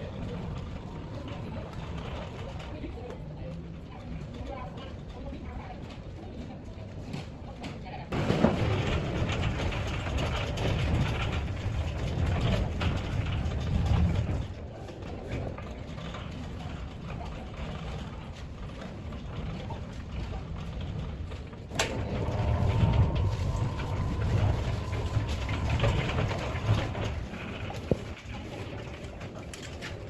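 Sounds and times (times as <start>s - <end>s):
gate motor and wheels rumbling: 0.0s - 6.0s, 8.1s - 30.0s.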